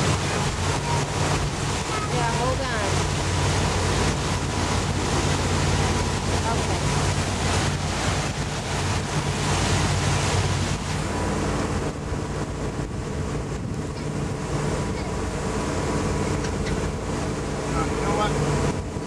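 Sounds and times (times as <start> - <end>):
motorboat engine humming: 0.0 - 19.0
rushing water: 0.0 - 19.0
wind buffeting microphone: 0.0 - 19.0.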